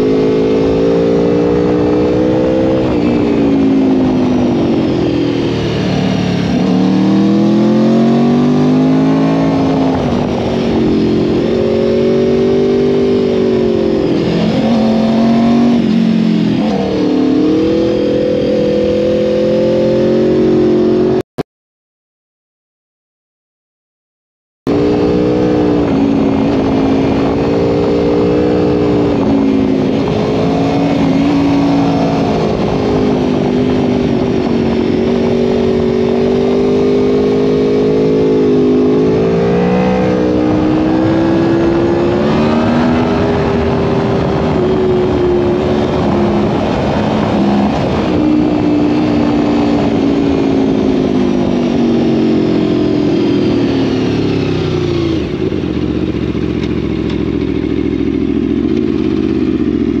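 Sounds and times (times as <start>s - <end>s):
wind rush on microphone: 0.0s - 21.0s, 24.7s - 57.3s
motorcycle engine and exhaust: 0.0s - 21.2s, 24.7s - 60.0s.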